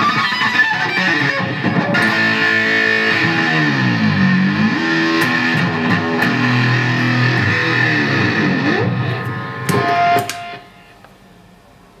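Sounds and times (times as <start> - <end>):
distorted electric guitar lead: 0.0 - 11.0
faint amplifier hiss: 0.0 - 12.0.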